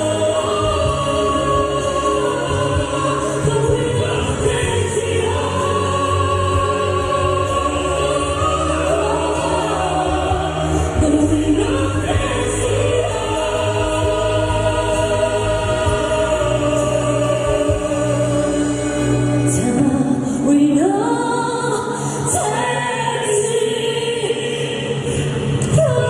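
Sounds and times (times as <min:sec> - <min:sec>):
backing music: 0:00.0 - 0:26.0
choir-like backing vocals: 0:00.0 - 0:26.0
woman singing: 0:00.0 - 0:26.0.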